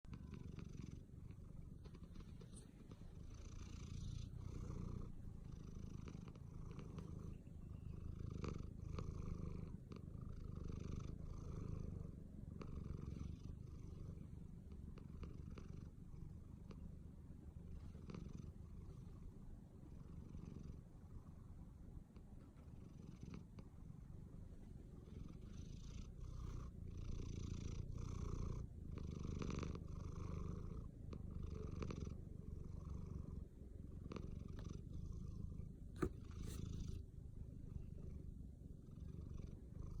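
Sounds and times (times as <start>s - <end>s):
cat snoring: 0.1s - 16.9s, 17.7s - 21.4s, 22.6s - 24.2s, 24.9s - 40.0s.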